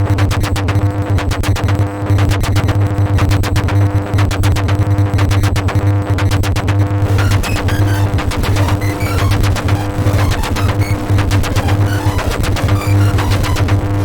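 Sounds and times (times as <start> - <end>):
rapid electronic clicks: 0.2 - 14.0.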